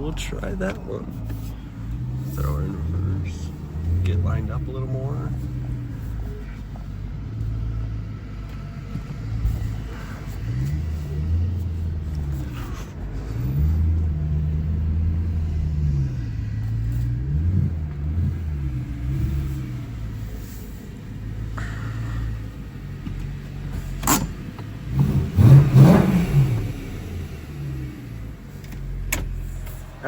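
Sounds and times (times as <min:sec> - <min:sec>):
car engine running at low speed: 0:00.0 - 0:30.0.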